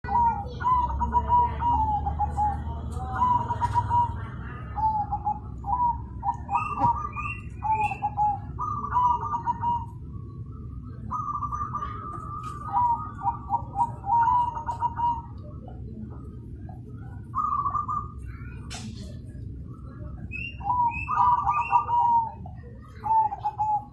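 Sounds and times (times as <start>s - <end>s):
dove cooing: 0.0s - 23.9s.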